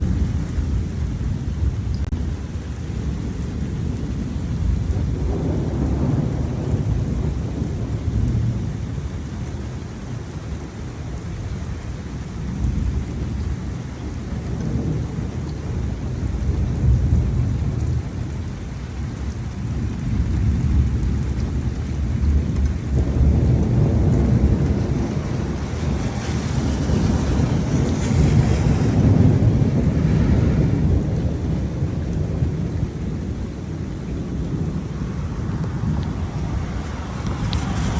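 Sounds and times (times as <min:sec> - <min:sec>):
low rolling thunder: 0:00.0 - 0:37.9
steady rain: 0:00.0 - 0:37.9.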